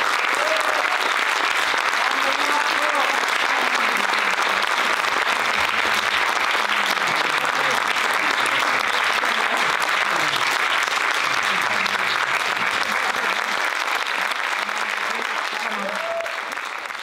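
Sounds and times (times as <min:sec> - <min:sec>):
audience applauding: 0:00.0 - 0:17.0
murmur of voices: 0:01.7 - 0:16.8.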